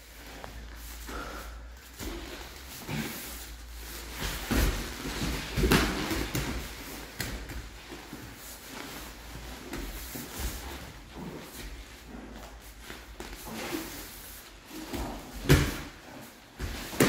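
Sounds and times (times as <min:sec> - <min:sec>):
bodies scuffing on mat: 0:00.0 - 0:17.0.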